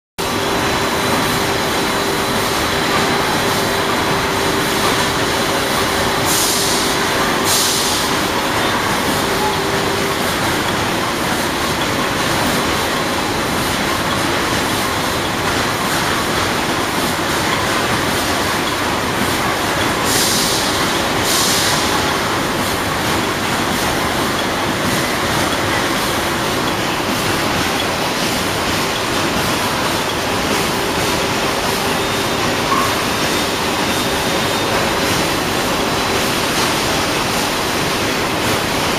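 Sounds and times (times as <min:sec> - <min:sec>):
packing line machines running: 0:00.2 - 0:38.9
steady hum: 0:00.2 - 0:38.9.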